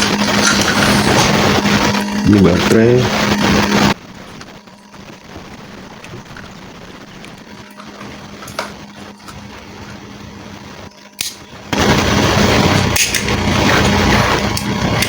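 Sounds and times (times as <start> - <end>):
air pump motor whirring: 0.0 - 15.0.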